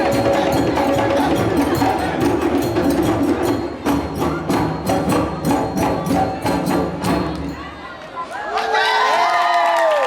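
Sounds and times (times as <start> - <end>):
hand drums and percussion: 0.0 - 8.2.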